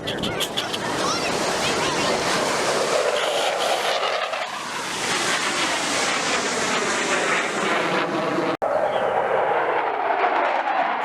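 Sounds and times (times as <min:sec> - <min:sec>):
military jet roaring past: 0:00.0 - 0:11.0.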